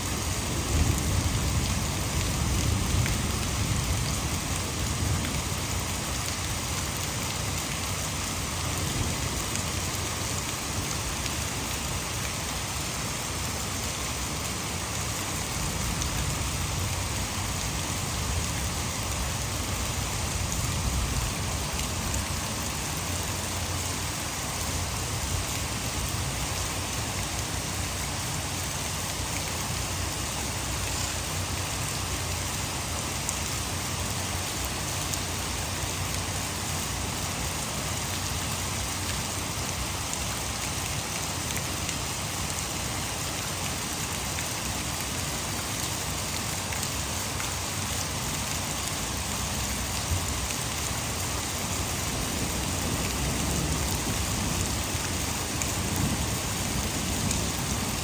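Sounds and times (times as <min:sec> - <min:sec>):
heavy rain pouring: 0:00.0 - 0:58.0
water falling from a dam: 0:00.0 - 0:58.0.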